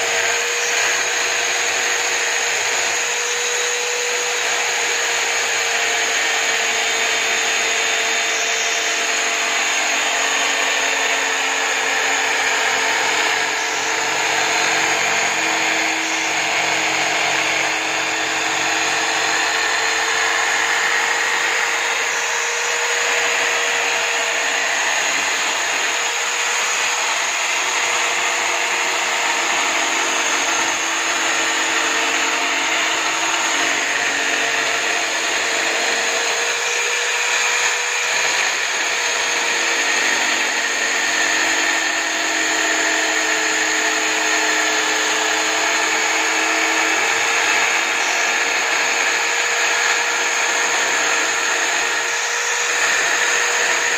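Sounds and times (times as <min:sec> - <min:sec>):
drill motor whine: 0:00.0 - 0:53.9
wood sanding rasp: 0:00.0 - 0:53.9.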